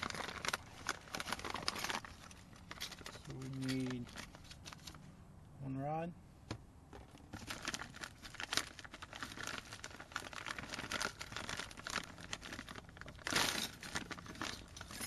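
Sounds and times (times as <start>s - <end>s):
packaging crinkling and rustling: 0.0s - 5.0s, 7.0s - 15.0s.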